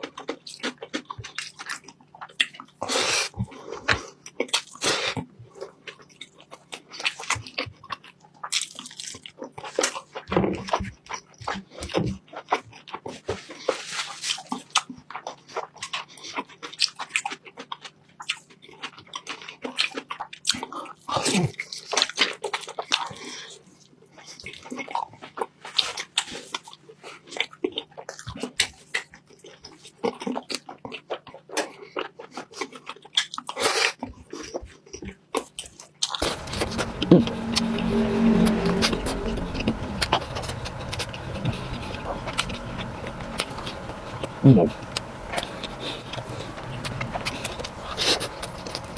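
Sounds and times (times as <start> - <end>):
wet chewing and slurping: 0.0 - 48.9.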